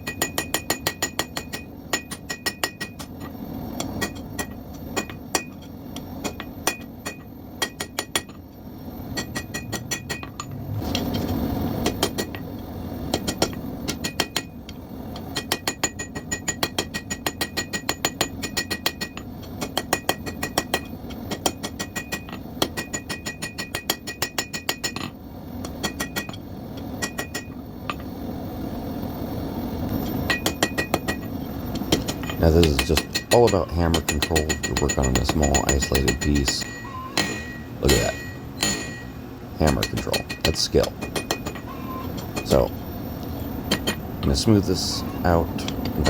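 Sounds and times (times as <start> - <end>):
hammer striking steel on anvil: 0.0 - 8.4, 9.1 - 11.1, 11.8 - 28.1, 30.0 - 42.8, 43.6 - 46.0.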